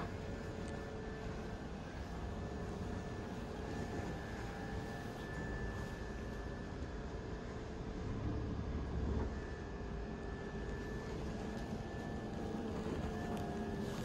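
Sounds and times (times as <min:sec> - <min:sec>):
thin high whine: 0:00.0 - 0:14.0
ventilation hum and hiss: 0:00.0 - 0:14.0.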